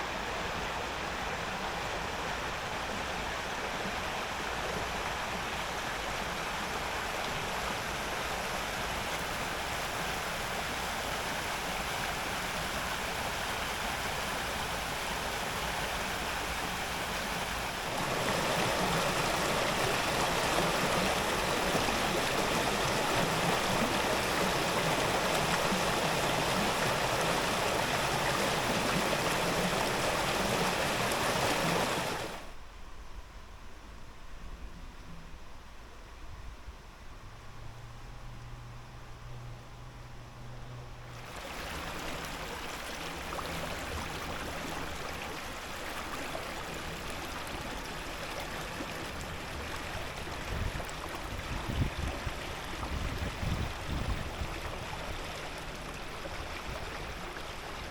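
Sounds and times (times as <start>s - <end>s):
stream water rushing: 0.0s - 32.6s, 41.1s - 57.9s.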